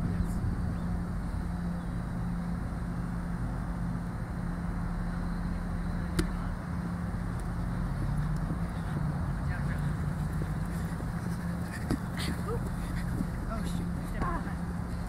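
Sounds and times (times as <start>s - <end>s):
constant hum: 0.0s - 15.0s
low outdoor rumble: 0.0s - 15.0s.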